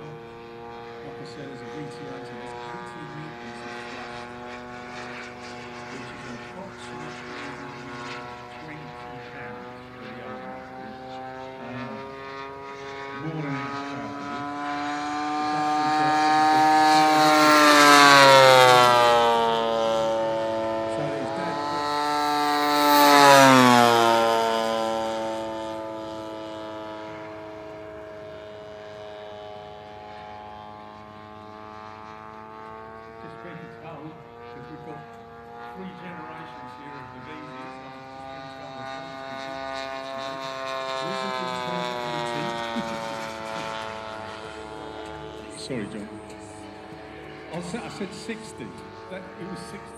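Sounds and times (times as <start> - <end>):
model aircraft engines passing low: 0.0 - 49.9.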